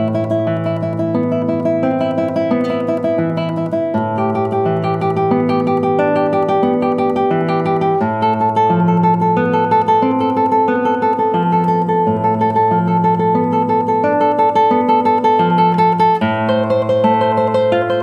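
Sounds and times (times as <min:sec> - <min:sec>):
classical guitar tremolo: 0:00.0 - 0:18.0.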